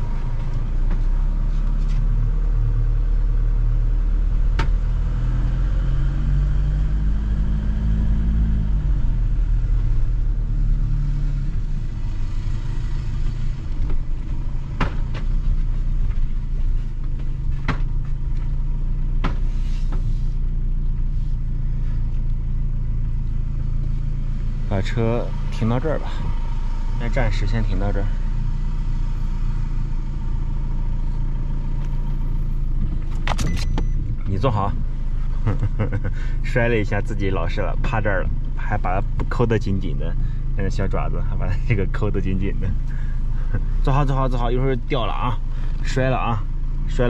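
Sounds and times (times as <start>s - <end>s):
motorhome engine: 0.0s - 47.0s.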